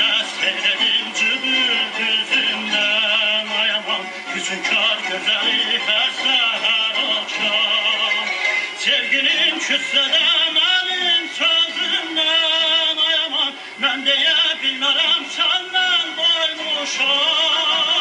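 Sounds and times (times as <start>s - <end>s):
man singing with vibrato: 0.0s - 18.0s
music: 0.0s - 18.0s.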